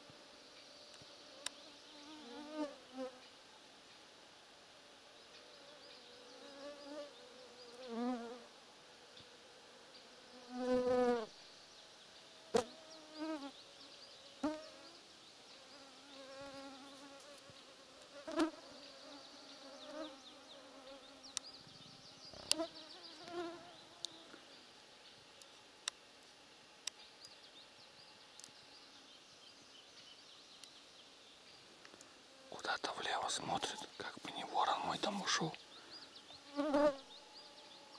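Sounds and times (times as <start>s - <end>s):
flying insects buzzing past: 0.0s - 37.9s.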